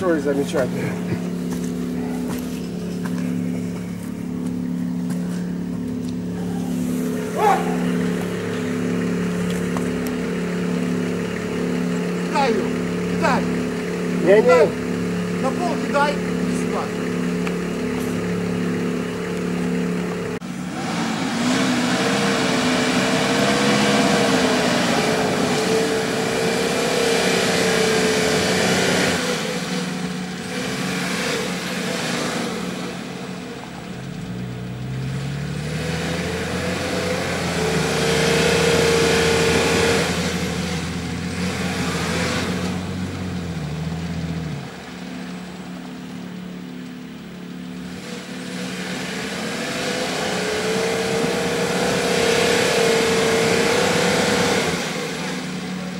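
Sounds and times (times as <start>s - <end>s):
truck engine revving under load: 0.0s - 55.9s.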